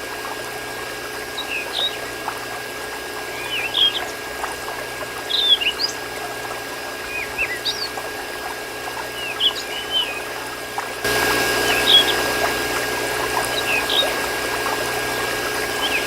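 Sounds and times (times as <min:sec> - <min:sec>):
thin whine: 0:00.0 - 0:16.0
birds chirping: 0:00.3 - 0:16.0.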